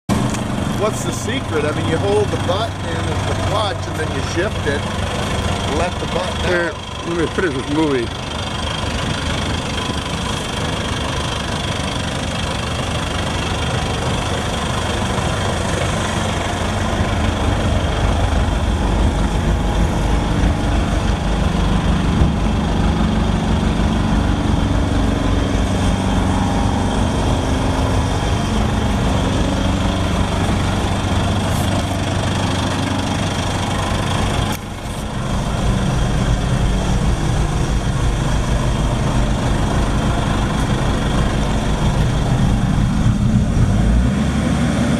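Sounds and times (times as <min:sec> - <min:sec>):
tractor engine idling: 0:00.1 - 0:44.0.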